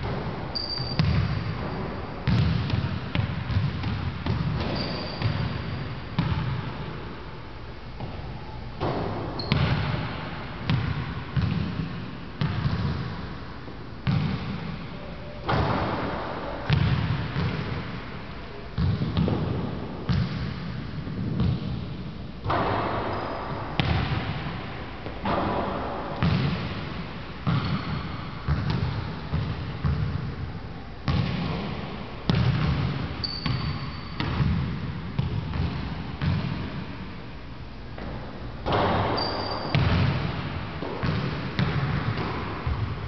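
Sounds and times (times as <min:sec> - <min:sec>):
basketballs bouncing on gym floor: 0:00.0 - 0:07.0, 0:08.0 - 0:13.3, 0:14.0 - 0:18.0, 0:18.8 - 0:37.0, 0:38.0 - 0:43.0.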